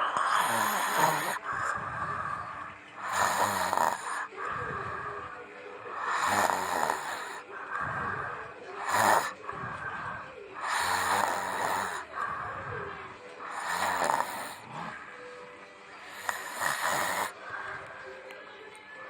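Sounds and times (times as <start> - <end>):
person snoring: 0.0 - 5.3, 5.9 - 15.1, 16.0 - 17.6.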